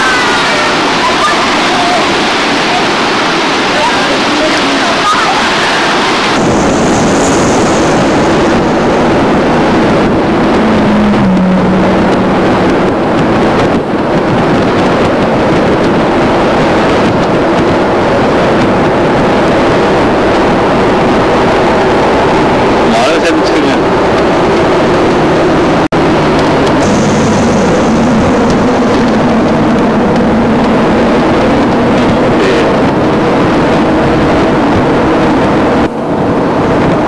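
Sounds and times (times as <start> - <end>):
car engine and tyre noise: 0.0 - 37.0
wind buffeting microphone: 0.0 - 37.0.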